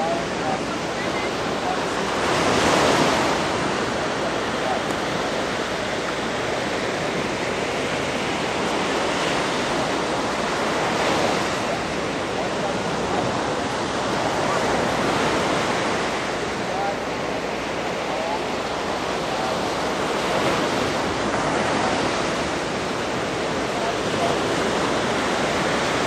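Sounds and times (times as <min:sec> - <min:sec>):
waves washing onto beach: 0:00.0 - 0:26.0.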